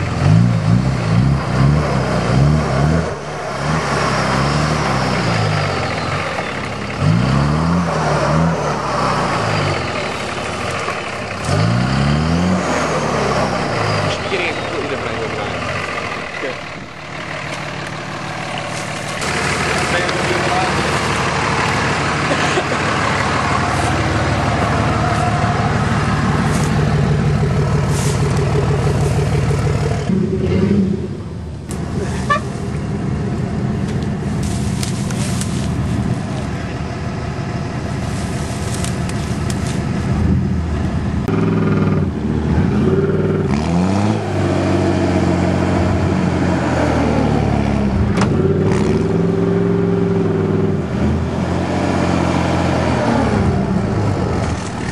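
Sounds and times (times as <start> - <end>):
diesel truck engines revving: 0.0 - 54.9
tyres churning through mud: 0.0 - 54.9.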